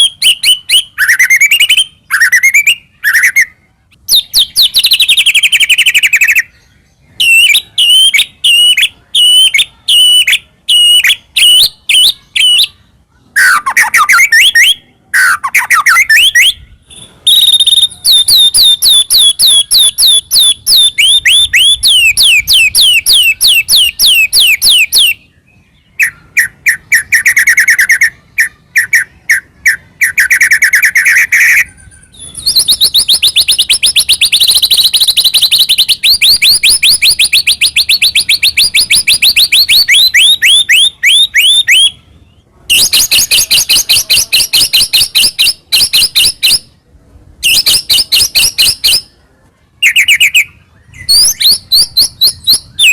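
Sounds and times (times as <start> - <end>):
songbird singing varied whistles: 0.0 - 46.8, 47.4 - 49.2, 49.8 - 52.9.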